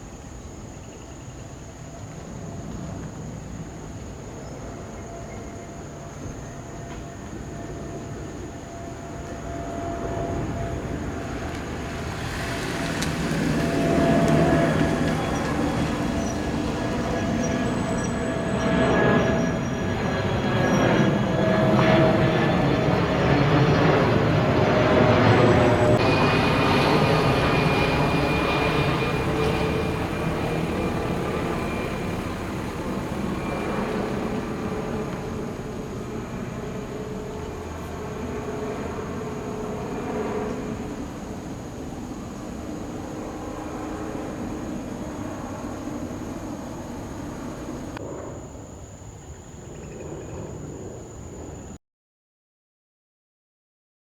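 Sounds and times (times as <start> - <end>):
high steady engine whine: 0.0 - 51.7
airliner engines roaring: 0.0 - 51.8.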